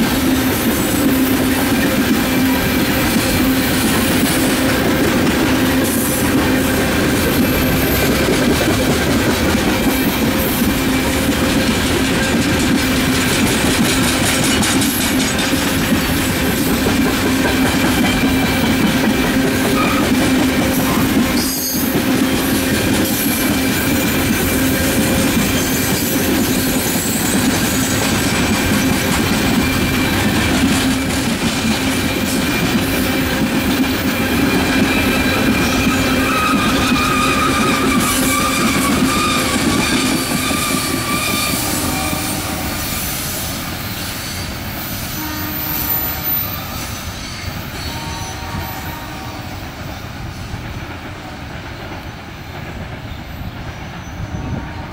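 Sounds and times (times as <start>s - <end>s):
train wheels clickety-clack: 0.0s - 54.9s.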